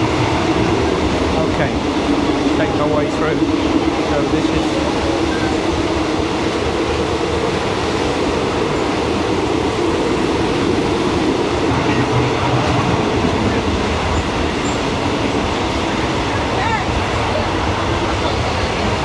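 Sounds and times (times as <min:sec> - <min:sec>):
train running noise from inside: 0:00.0 - 0:19.0.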